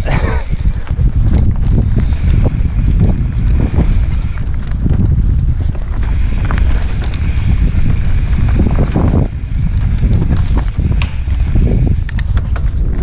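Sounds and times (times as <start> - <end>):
bike rattling over bumps: 0.0 - 13.0
wind on microphone: 0.0 - 13.0.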